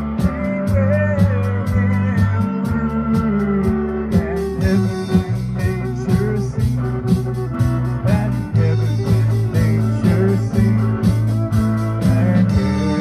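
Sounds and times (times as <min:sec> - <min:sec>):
band music with steady beat: 0:00.0 - 0:13.0.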